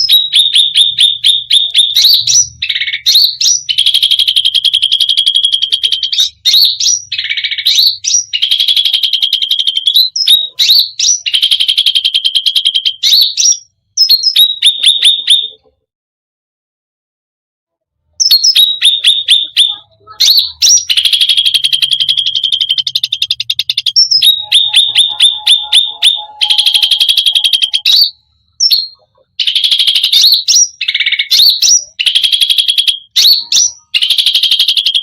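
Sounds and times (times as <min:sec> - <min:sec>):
songbird singing trills: 0:00.0 - 0:15.7, 0:18.2 - 0:35.0.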